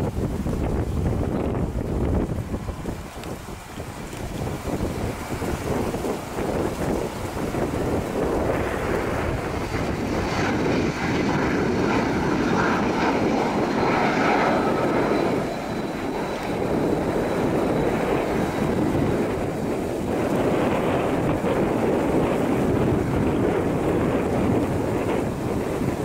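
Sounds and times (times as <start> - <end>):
faint high jet whine: 0.0 - 26.0
jet airliner taking off: 0.0 - 26.0.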